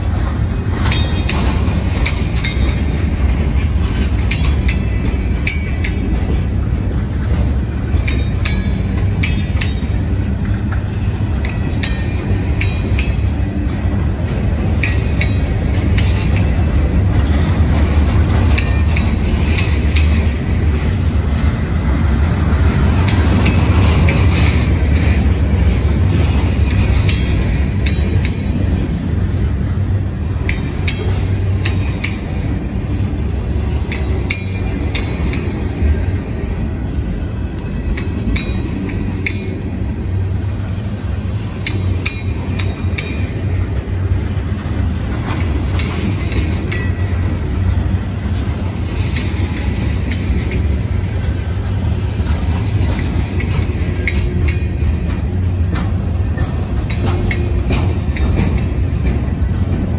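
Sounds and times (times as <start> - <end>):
freight train wheels rumbling: 0.0 - 59.9
wheels and couplings clanking: 0.0 - 59.9.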